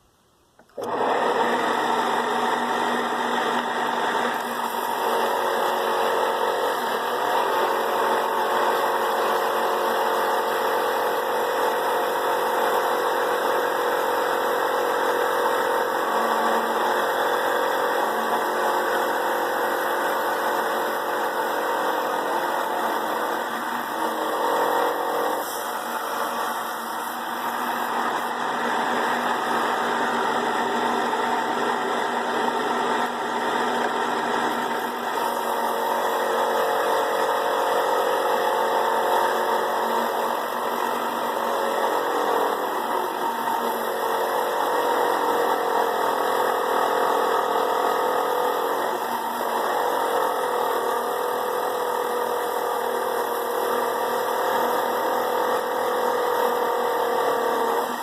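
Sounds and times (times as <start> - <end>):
trim saw motor running: 0.6 - 58.0
saw blade whining through stone: 0.8 - 58.0.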